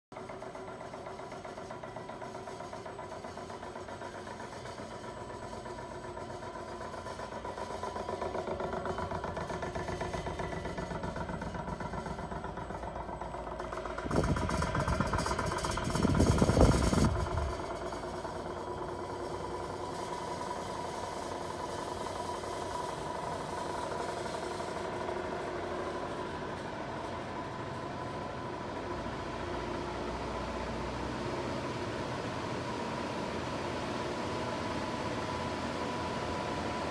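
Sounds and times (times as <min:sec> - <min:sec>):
machine humming and whining: 0:00.2 - 0:36.9.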